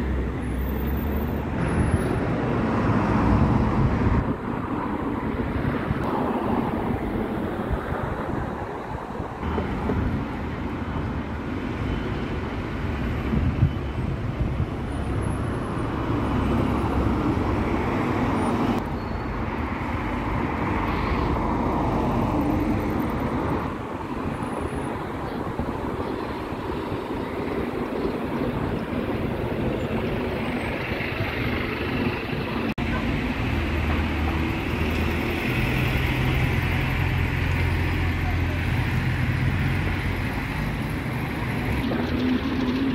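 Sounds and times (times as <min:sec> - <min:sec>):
buses and cars driving past: 0:00.0 - 0:42.9.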